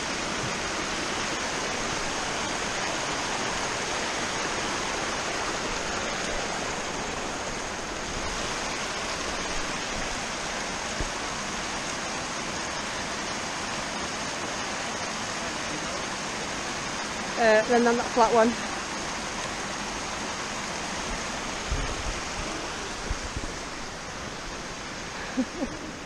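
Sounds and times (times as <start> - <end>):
fast-flowing stream rushing: 0.0 - 26.0.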